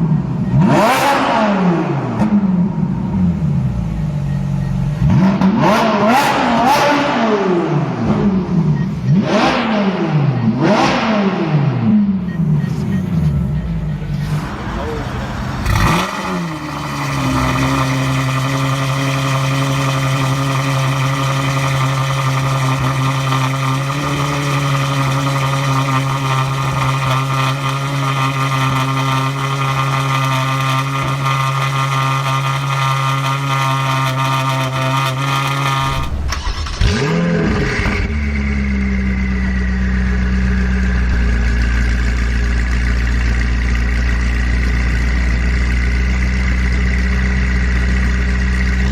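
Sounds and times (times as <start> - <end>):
car engine revving: 0.2 - 48.9.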